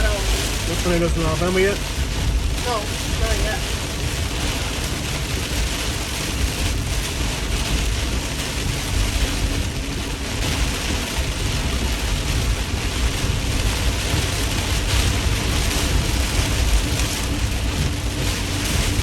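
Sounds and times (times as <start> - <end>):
car and road rumble: 0.0 - 19.0
heavy rain on car: 0.0 - 19.0.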